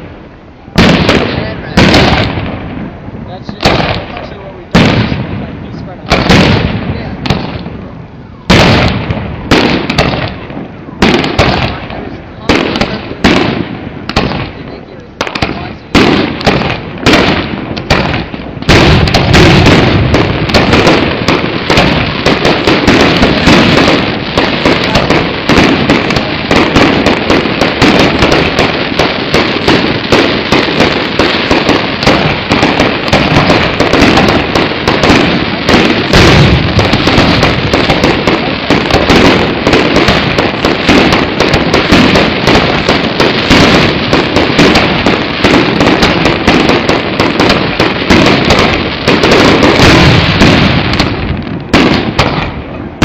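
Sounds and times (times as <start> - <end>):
firework bangs: 0.0 - 53.0
fireworks booms and crackle: 0.0 - 53.0.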